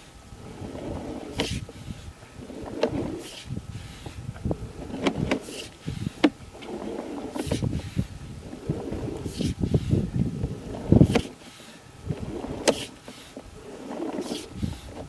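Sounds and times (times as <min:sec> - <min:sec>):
cable rubbing and clicking: 0:00.5 - 0:11.4, 0:12.0 - 0:15.0
hissing scrapes: 0:00.6 - 0:15.0.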